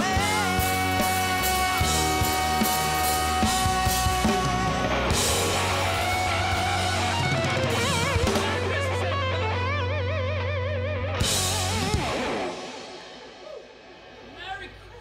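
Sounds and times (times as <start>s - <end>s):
electric guitar lead with vibrato: 0.0s - 15.0s
rock band playing: 0.0s - 15.0s.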